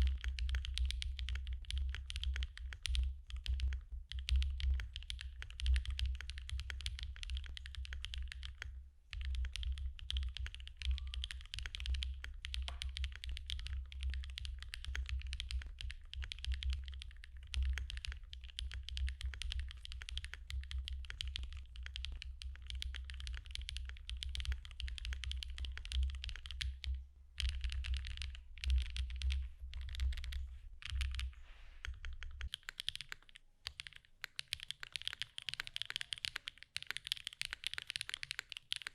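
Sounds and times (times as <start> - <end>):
typing on a mechanical keyboard: 0.0 - 38.9.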